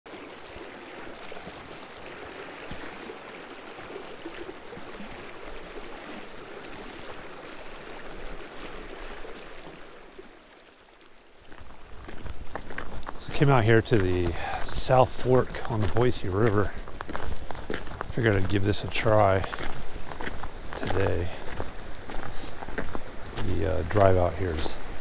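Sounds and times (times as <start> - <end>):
river water rushing: 0.1 - 25.0.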